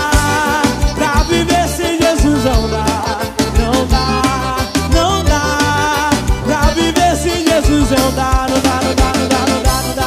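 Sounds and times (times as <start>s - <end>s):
live band playing gospel music: 0.0s - 10.0s.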